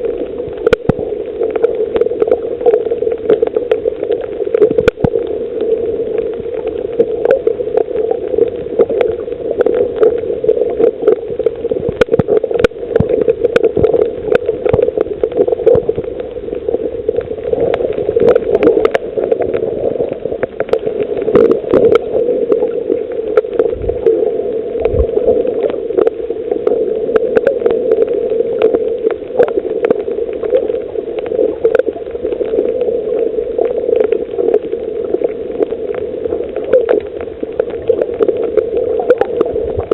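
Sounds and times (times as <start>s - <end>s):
muffled underwater water rush: 0.0s - 39.9s
sharp clicks and crackles: 0.0s - 39.9s.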